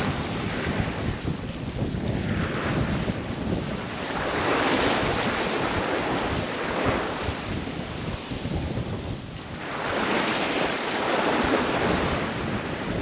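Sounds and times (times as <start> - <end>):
water splashing along a hull: 0.0 - 13.0
wind buffeting the microphone: 0.0 - 13.0.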